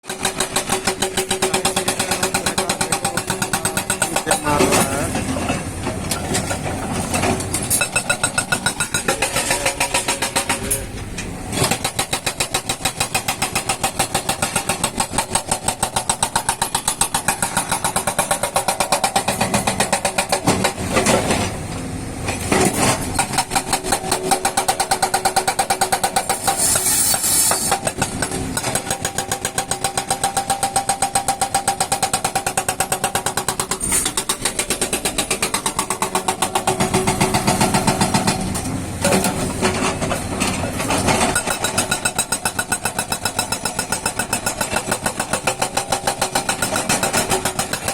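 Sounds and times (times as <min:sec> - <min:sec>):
excavator engine running: 0:00.0 - 0:47.9
hydraulic rock breaker hammering: 0:00.0 - 0:47.9.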